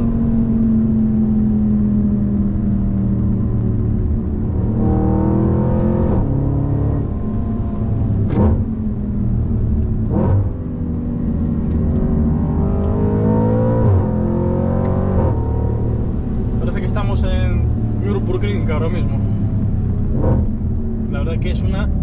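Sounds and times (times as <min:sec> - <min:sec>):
car engine accelerating hard: 0:00.0 - 0:22.0
exhaust cracks at gear changes: 0:01.6 - 0:22.0.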